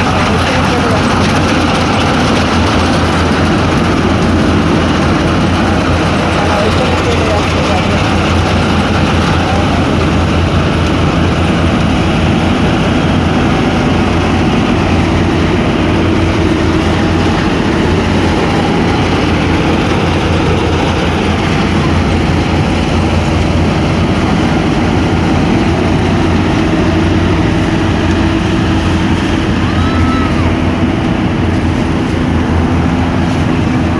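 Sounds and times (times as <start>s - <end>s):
engine droning steadily: 0.0s - 33.9s.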